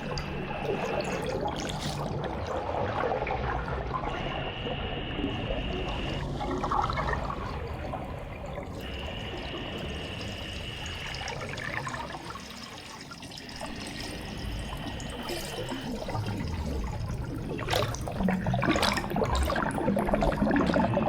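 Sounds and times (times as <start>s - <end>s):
muffled underwater water wash: 0.0s - 21.0s
underwater bubbling: 0.0s - 21.0s.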